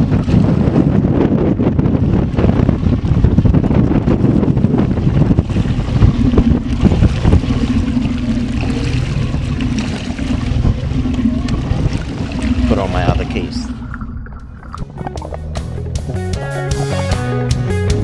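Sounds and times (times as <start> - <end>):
wind buffeting microphone: 0.0 - 17.0
boat engine idling: 0.0 - 18.0.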